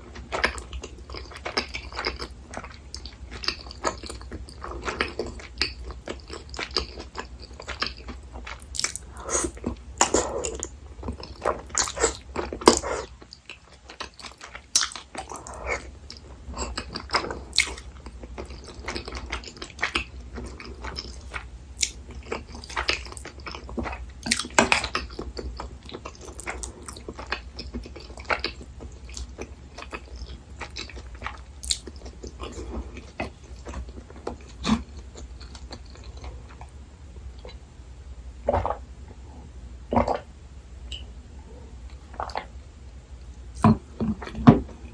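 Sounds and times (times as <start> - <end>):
person chewing food: 0.0 - 37.6, 38.4 - 40.3, 40.9 - 42.6, 43.3 - 44.9.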